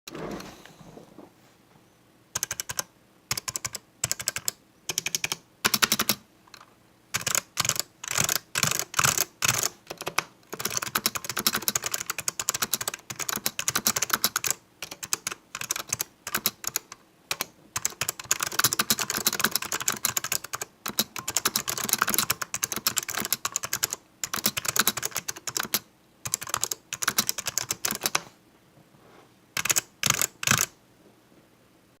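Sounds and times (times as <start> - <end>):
mechanical keyboard typing: 2.4 - 28.3, 29.6 - 30.8.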